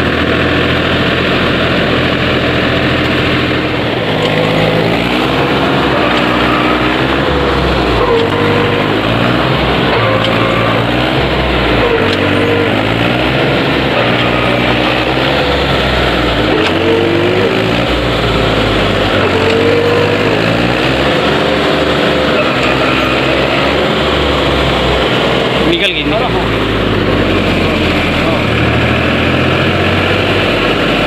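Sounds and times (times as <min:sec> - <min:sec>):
diesel tractor engine revving: 0:00.0 - 0:31.0.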